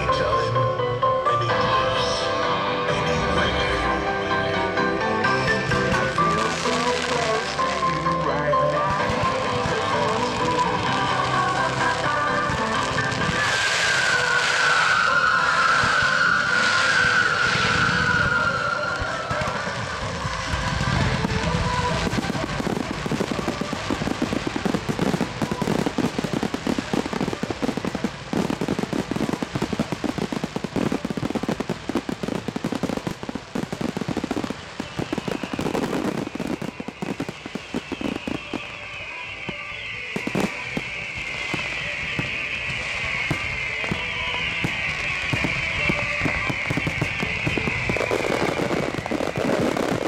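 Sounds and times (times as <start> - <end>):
firework bangs and crackles: 2.0 - 50.0
high hissing crackle: 9.0 - 50.0.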